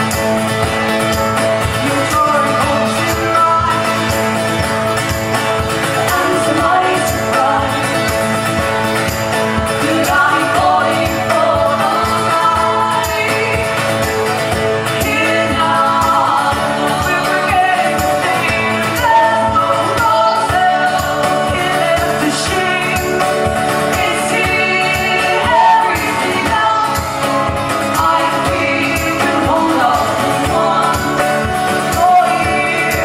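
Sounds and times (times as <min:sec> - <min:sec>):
people singing: 0:00.0 - 0:33.0
strummed strings: 0:00.0 - 0:33.0.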